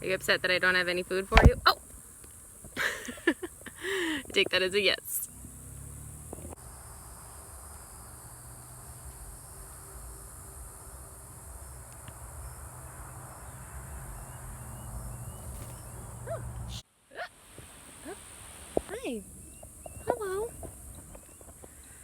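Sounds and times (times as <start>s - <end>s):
insect chorus buzzing: 0.0s - 16.8s, 17.4s - 22.0s.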